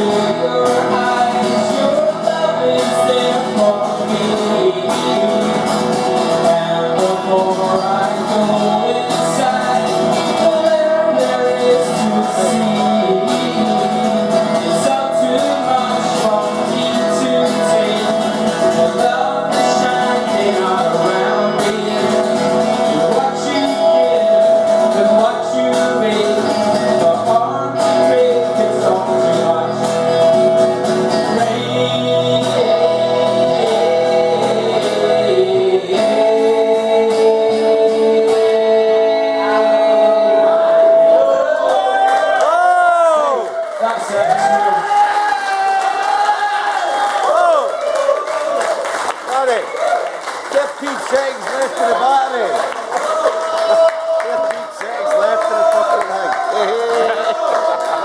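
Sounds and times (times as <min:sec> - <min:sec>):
man singing: 0:00.0 - 0:47.8, 0:53.2 - 0:58.0
acoustic guitars: 0:00.0 - 0:58.0.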